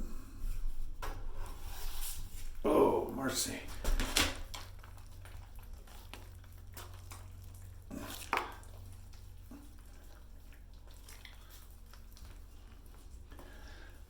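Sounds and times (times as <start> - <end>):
wet scraping in a bucket: 0.3 - 2.6, 3.3 - 14.0.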